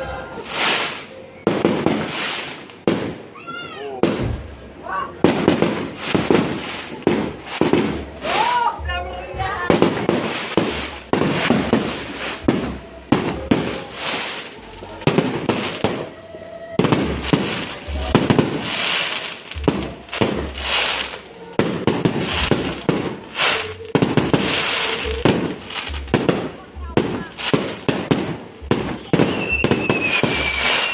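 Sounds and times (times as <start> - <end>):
fireworks bangs: 0.0 - 30.9
fireworks hissing and crackling: 0.0 - 30.9.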